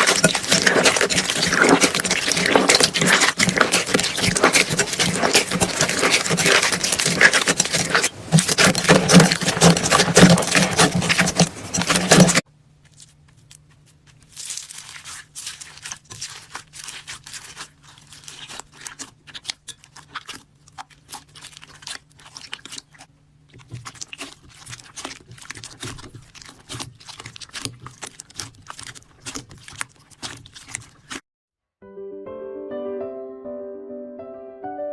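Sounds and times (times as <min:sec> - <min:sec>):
slime crackling and crunching: 0:00.0 - 0:31.2.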